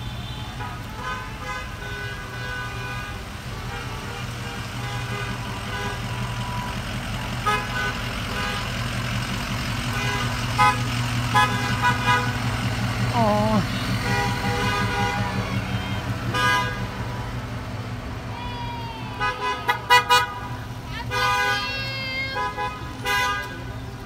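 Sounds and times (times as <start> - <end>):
car horns honking: 0.0 - 18.3, 19.0 - 24.0
engine rumble: 0.0 - 24.0.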